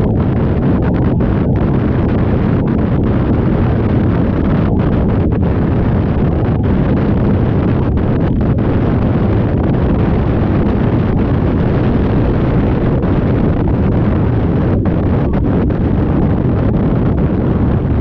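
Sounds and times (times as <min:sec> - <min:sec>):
boat engines rumbling: 0:00.0 - 0:18.0
wind buffeting microphone: 0:00.0 - 0:18.0.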